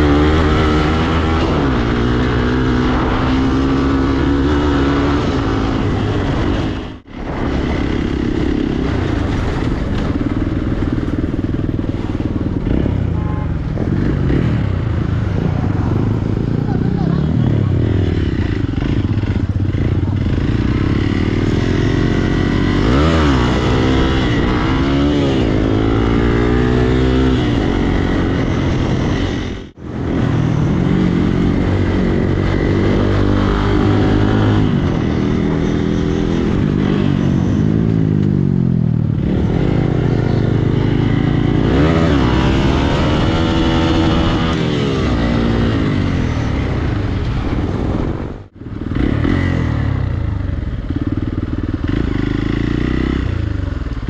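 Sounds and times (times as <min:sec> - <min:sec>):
dirt bike engine revving: 0:00.0 - 0:53.8.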